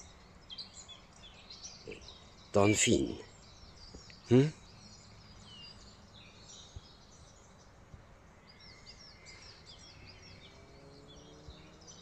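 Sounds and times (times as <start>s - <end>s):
small birds chirping: 0.0s - 12.0s
steady low background noise: 0.0s - 12.0s.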